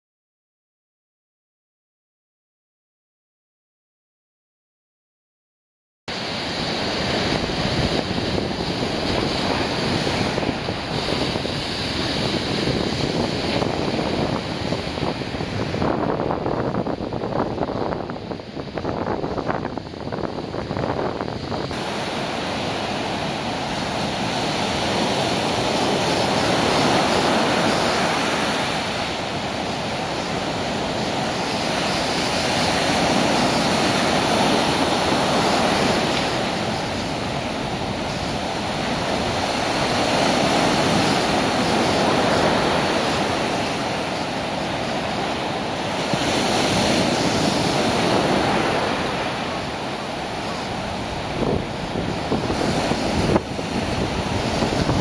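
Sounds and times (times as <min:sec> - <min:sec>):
surf breaking on a beach: 0:06.1 - 0:55.0.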